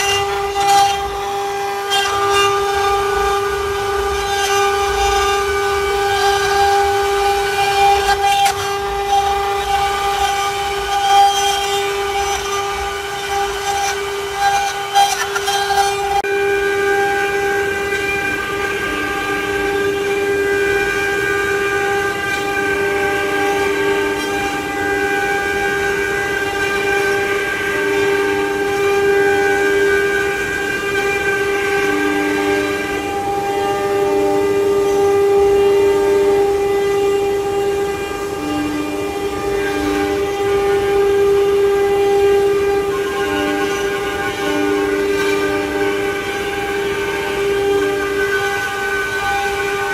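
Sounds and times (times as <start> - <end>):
wood-carving router whine: 0.0 - 49.9.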